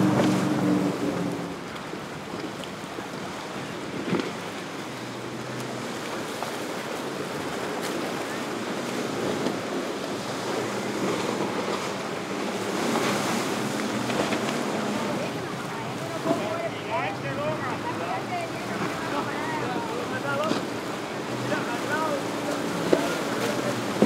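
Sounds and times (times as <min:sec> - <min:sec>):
distant boat engine humming: 0:00.0 - 0:24.0
waves washing: 0:00.0 - 0:24.0.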